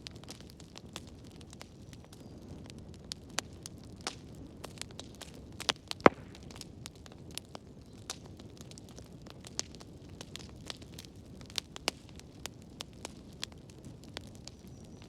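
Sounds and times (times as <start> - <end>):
fire pops: 0.0 - 15.0
low steady fire rumble: 0.0 - 15.0
wood fire crackling: 0.0 - 15.0.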